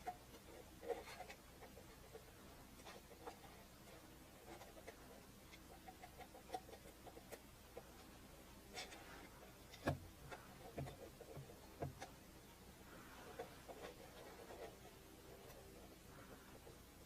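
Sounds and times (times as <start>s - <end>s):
faint clicks and knocks: 0.0s - 16.9s.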